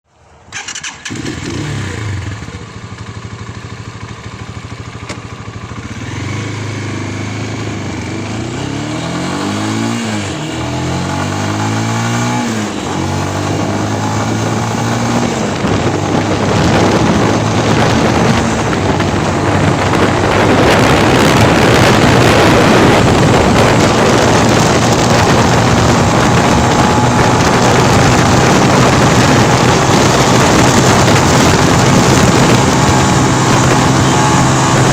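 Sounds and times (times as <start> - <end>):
motorcycle engine accelerating: 0.5 - 34.9
wind rushing over microphone: 5.8 - 34.9.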